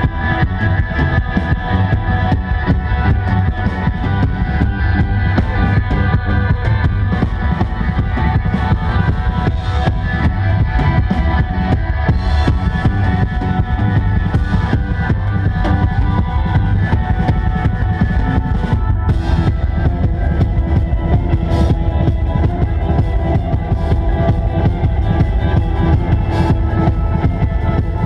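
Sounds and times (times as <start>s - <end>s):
loud live rock band: 0.0s - 28.0s.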